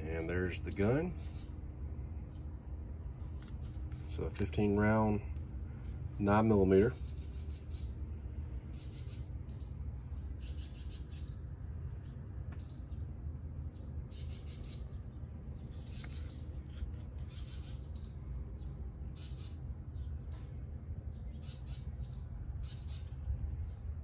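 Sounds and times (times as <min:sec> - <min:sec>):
birds calling: 0:00.0 - 0:02.6, 0:03.2 - 0:24.0
insects chirping: 0:00.0 - 0:24.0
steady low rumble: 0:00.0 - 0:24.0.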